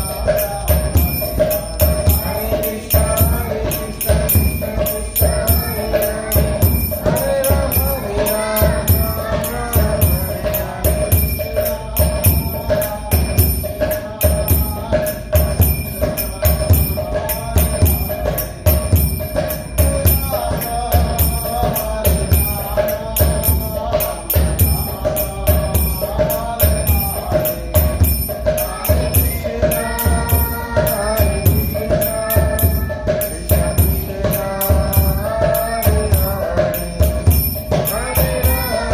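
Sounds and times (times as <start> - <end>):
jingling percussion: 0.0 - 38.9
steady drum beat: 0.0 - 38.9
wavering melody: 0.0 - 38.9.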